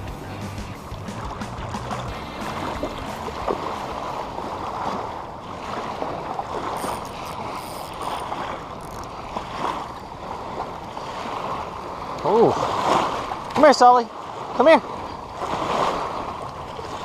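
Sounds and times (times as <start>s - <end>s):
shallow water sloshing and lapping: 0.9s - 17.0s.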